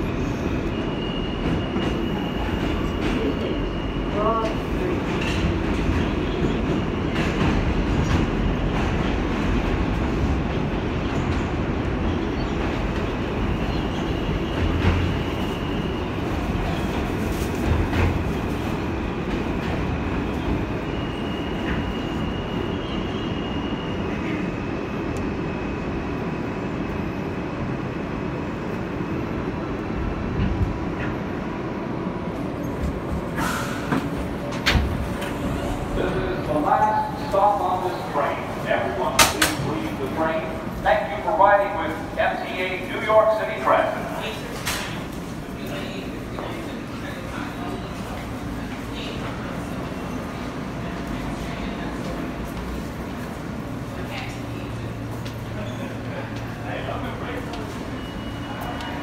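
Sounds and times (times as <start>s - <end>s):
subway wheels rumbling on rail: 0.0s - 59.0s.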